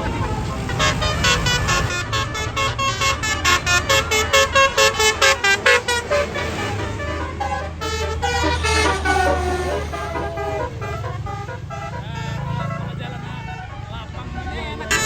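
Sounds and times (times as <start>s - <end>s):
bus engine running: 0.0s - 15.0s
bus horn playing a melody: 0.0s - 15.0s.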